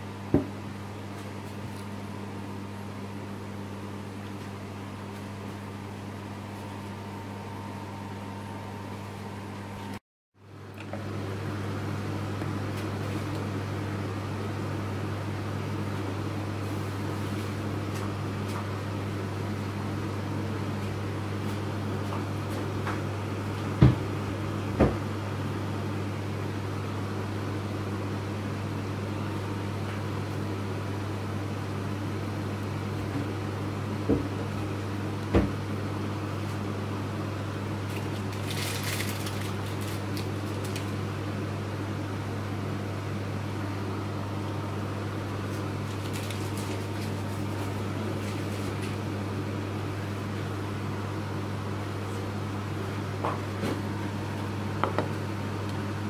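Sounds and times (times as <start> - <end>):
kitchen appliance humming: 0.0 - 56.0.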